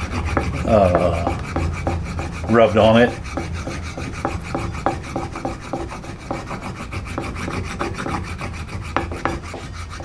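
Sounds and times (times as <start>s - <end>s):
compound rubbing on wooden strop: 0.0s - 10.0s.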